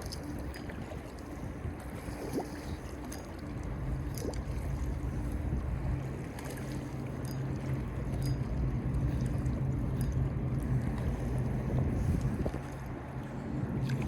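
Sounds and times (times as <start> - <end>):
low motor hum: 0.0 - 14.0
wind rumble on microphone: 0.0 - 14.0.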